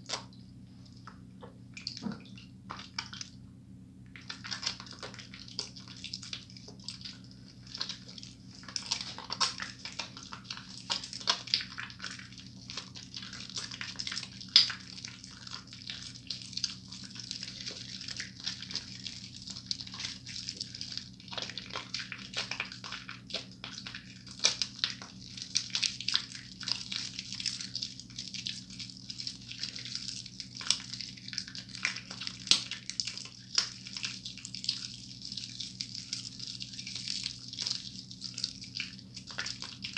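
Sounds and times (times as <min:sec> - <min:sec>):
wet hands lathering soap: 0:00.0 - 0:03.4, 0:04.1 - 0:39.9.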